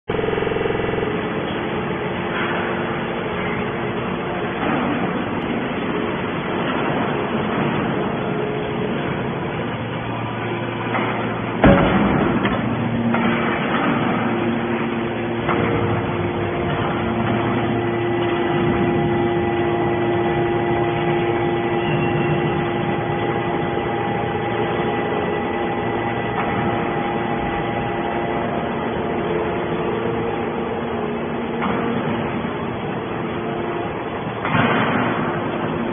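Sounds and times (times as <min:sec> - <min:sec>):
hydraulic machine hum: 0:00.1 - 0:35.9
loud metallic bang: 0:04.3 - 0:35.9.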